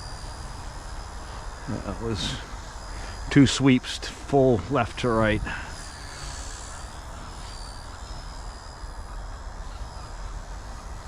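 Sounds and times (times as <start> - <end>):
micro helicopter whine: 0.0 - 11.0.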